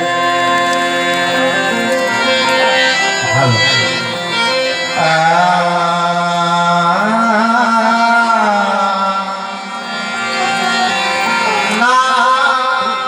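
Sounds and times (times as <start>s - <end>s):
instrumental accompaniment: 0.0s - 13.0s.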